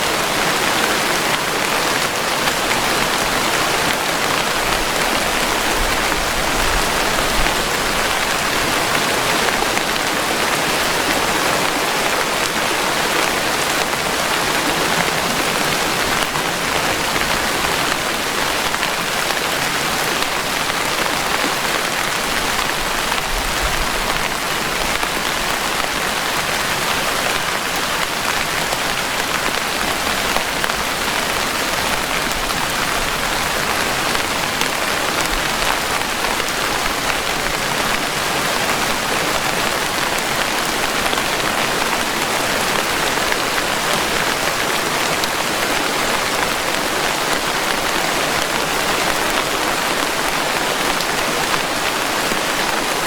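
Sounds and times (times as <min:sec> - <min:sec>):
steady rainfall hiss: 0:00.0 - 0:53.0.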